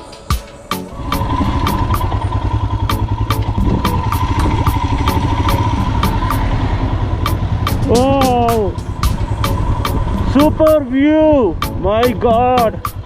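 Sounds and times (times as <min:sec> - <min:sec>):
motorcycle engine running: 0:00.9 - 0:13.0.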